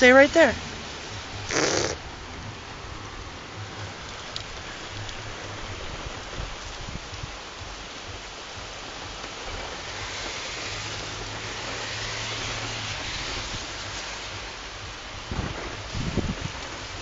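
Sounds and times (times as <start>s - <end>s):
heavy rain falling: 0.0s - 17.0s
low steady hum: 0.0s - 17.0s.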